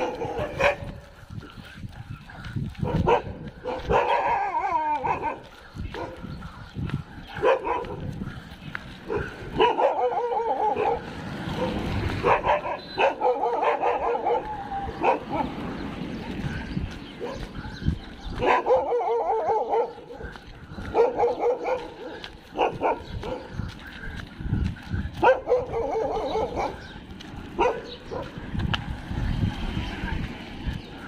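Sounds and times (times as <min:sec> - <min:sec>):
dogs whining and yipping: 0:00.0 - 0:08.1, 0:08.8 - 0:23.9, 0:25.2 - 0:28.4
dogs yapping: 0:00.0 - 0:24.1, 0:25.2 - 0:28.6.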